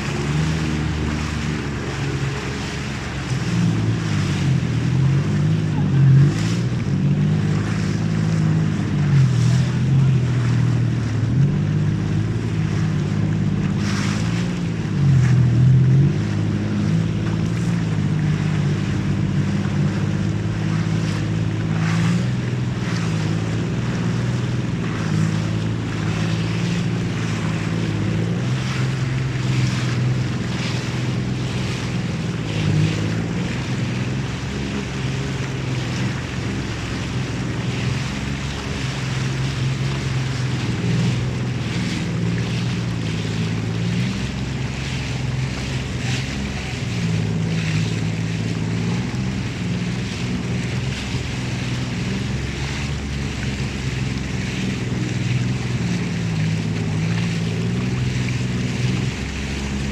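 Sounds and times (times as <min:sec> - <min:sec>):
motorboat engine running: 0:00.0 - 0:59.9
water splashing: 0:00.0 - 0:59.9.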